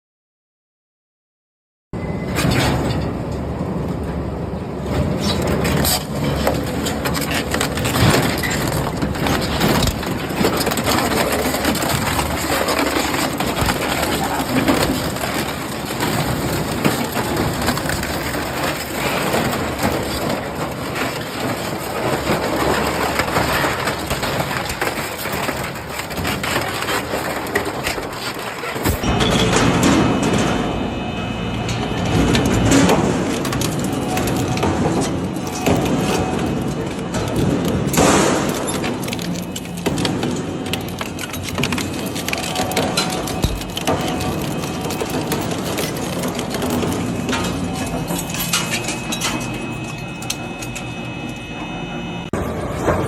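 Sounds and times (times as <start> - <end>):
shredder crushing metal scrap: 4.8 - 31.0, 31.6 - 51.5.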